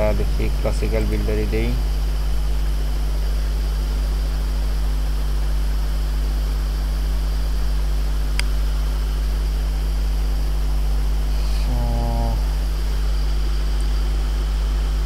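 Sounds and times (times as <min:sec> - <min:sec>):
low electrical hum and hiss: 0:00.0 - 0:15.0.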